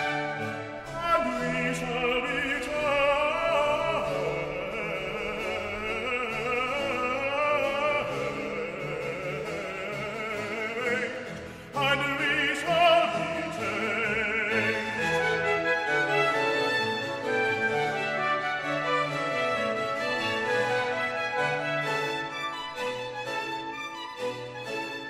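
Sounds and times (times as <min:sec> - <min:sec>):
operatic singing with vibrato: 0:00.0 - 0:25.0
orchestra playing: 0:00.0 - 0:25.0.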